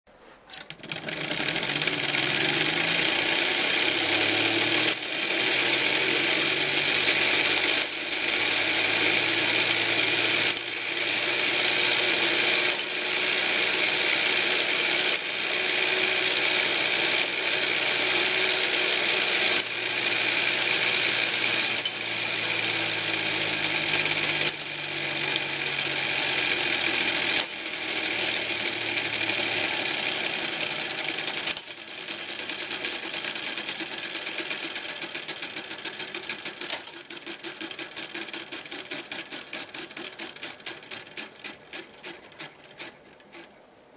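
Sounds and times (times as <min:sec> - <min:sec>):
metallic clatter of model loom: 0:00.5 - 0:43.6.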